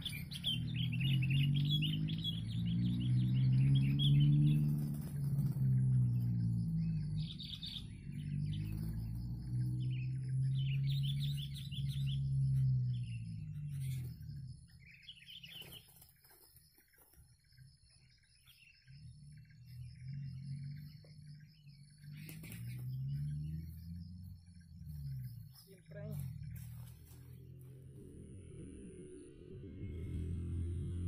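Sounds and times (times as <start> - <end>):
birds chirping: 0.0 - 31.0
low pitched hum: 0.0 - 31.0.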